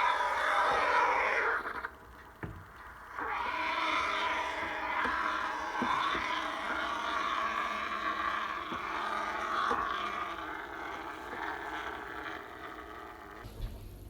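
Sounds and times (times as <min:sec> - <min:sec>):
espresso steam wand hissing: 0:00.0 - 0:13.4.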